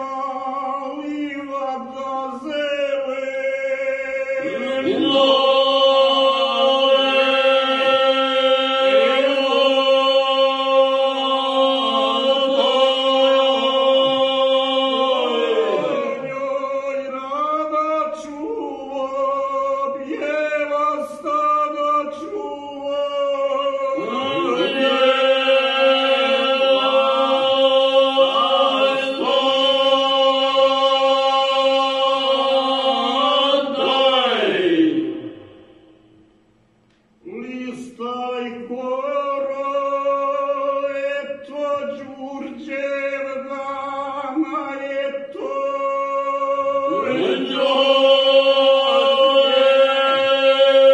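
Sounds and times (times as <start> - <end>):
men singing a cappella: 0.0 - 35.3, 37.2 - 50.9.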